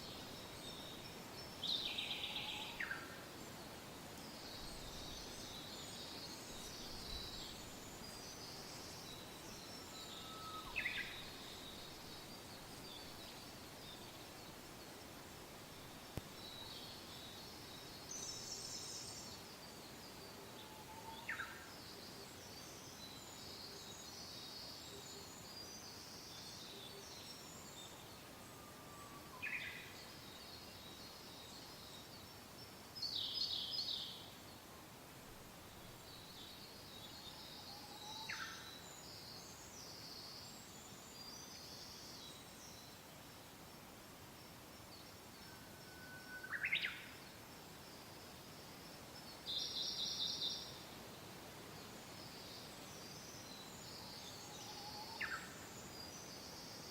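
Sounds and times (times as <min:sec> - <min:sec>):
wind hiss: 0:00.0 - 0:56.9.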